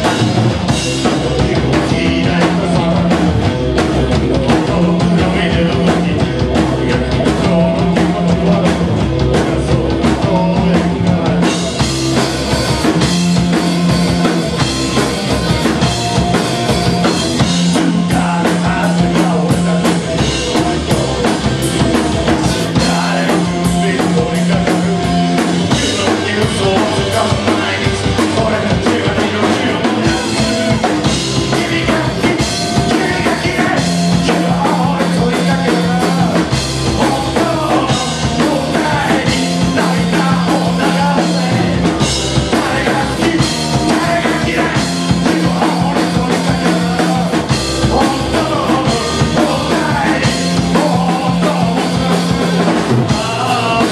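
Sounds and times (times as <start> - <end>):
drum kit driving beat: 0.0 - 53.9
electric guitars: 0.0 - 53.9.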